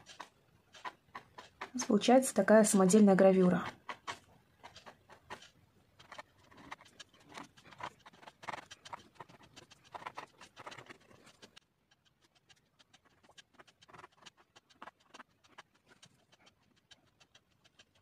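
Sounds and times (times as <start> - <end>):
toothpick scratching on paper: 0.0 - 18.0.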